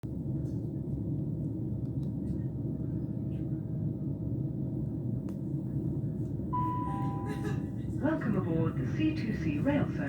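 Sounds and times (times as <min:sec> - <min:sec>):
train carriage rumble: 0:00.1 - 0:10.0.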